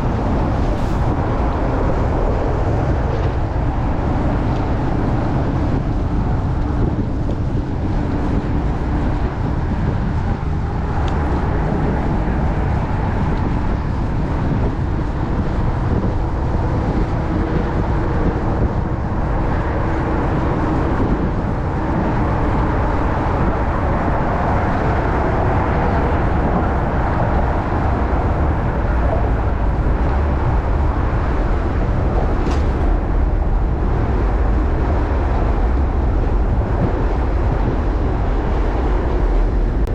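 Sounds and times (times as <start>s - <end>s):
city traffic: 0.0s - 39.9s
wind buffeting microphone: 0.0s - 39.9s.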